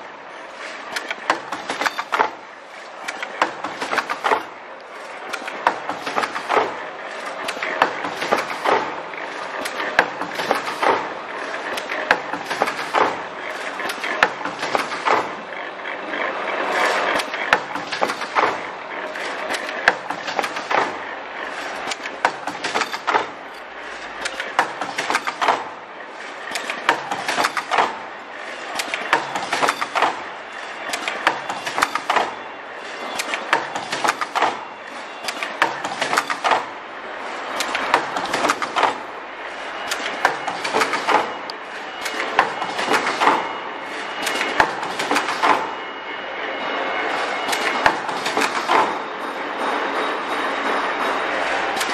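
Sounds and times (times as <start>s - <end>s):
machine clicking and clacking: 0.0s - 51.9s.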